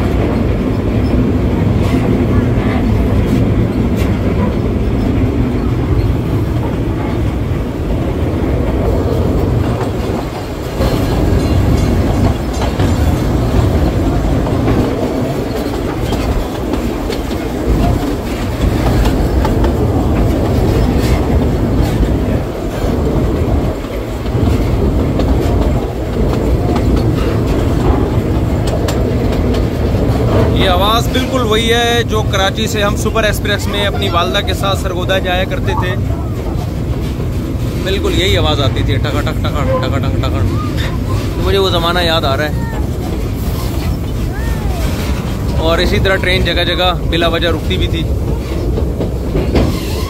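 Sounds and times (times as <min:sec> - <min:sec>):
train rumbling on track: 0:00.0 - 0:50.0
wheels clacking over rail joints: 0:00.0 - 0:50.0.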